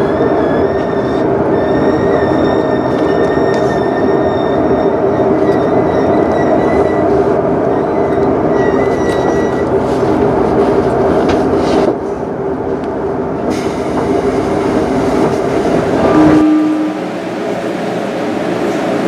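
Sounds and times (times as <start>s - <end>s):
electric train rumble and hum: 0.0s - 19.0s.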